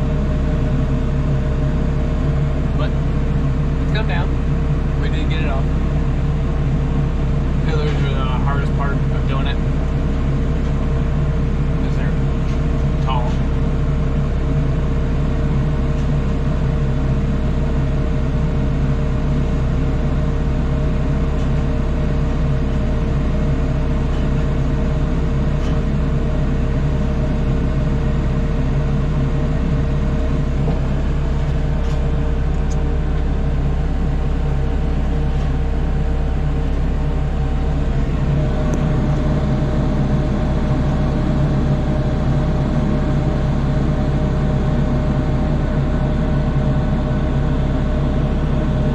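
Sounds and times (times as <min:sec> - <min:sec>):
engine whine: 0:00.0 - 0:48.9
truck engine drone: 0:00.0 - 0:48.9.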